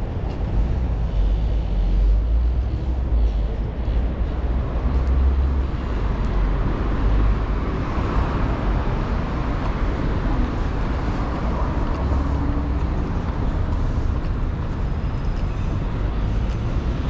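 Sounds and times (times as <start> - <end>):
low traffic rumble: 0.0 - 17.0
passing cars and buses: 0.0 - 17.0.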